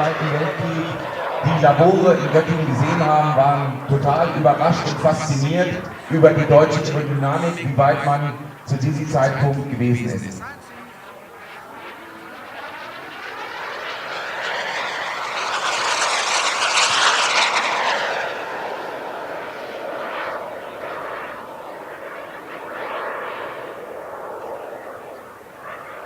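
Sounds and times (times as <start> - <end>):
model jet turbine flyby: 0.0 - 26.0.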